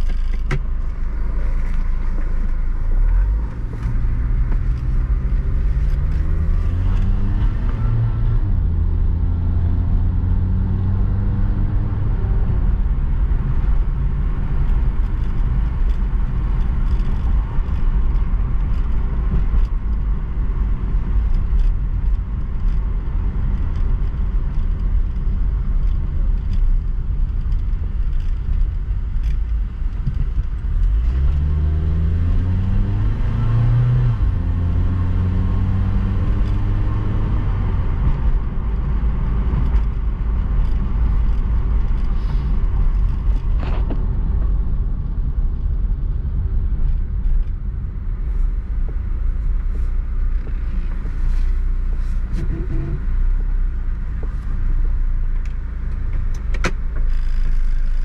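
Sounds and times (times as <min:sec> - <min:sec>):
car engine rumble from inside: 0:00.0 - 0:58.0
road noise: 0:00.0 - 0:58.0.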